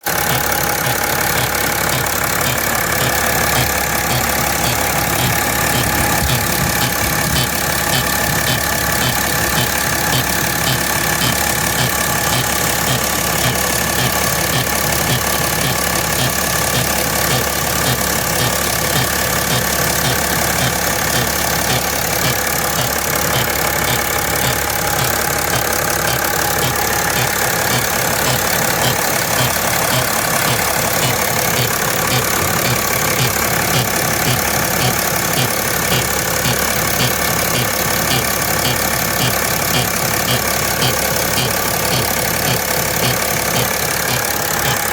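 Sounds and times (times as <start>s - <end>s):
car engine idling: 0.0s - 44.9s
engine ticking: 0.0s - 44.9s.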